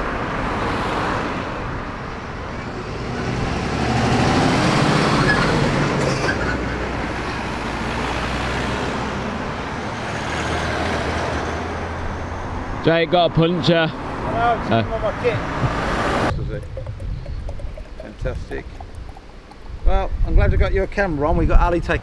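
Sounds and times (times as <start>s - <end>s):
cars passing on a road: 0.0s - 19.8s.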